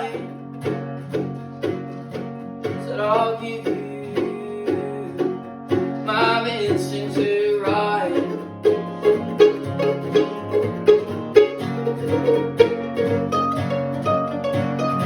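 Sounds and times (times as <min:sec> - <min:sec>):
picked string lead melody: 0:00.0 - 0:15.0
plucked string accompaniment: 0:00.0 - 0:15.0.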